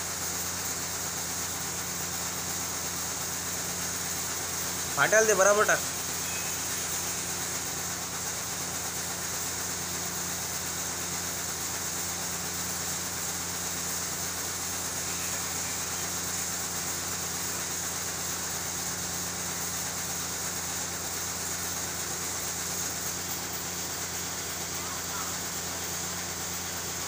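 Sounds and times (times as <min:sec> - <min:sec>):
motor hum with hiss: 0:00.0 - 0:27.0.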